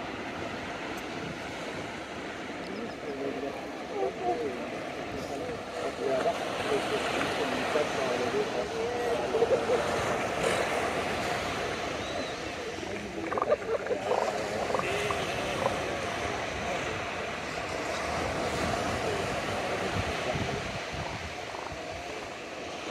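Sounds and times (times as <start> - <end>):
surf breaking on beach: 0.0 - 22.9
wind on microphone: 0.0 - 22.9.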